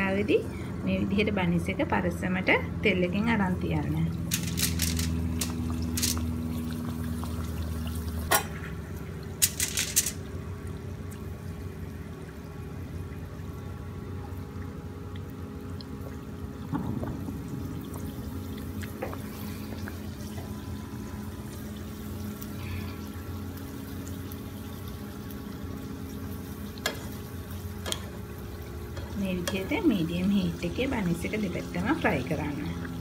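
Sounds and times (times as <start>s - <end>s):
buns frying in hot oil: 0.0s - 16.7s, 17.3s - 33.0s.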